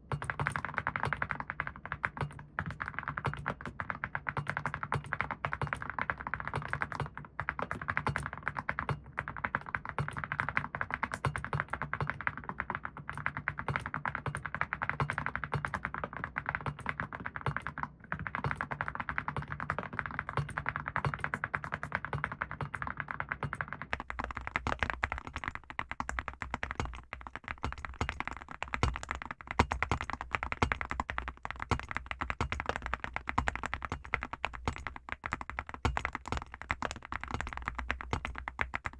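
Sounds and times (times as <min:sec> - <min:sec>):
fast mechanical keyboard typing: 0:00.1 - 0:38.9.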